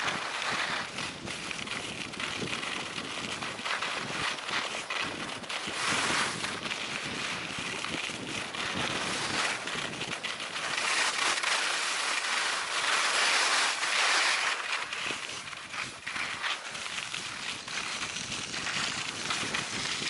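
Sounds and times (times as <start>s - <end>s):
wind noise on microphone: 0.0s - 11.8s, 14.8s - 20.0s
skis scraping on snow: 0.0s - 20.0s.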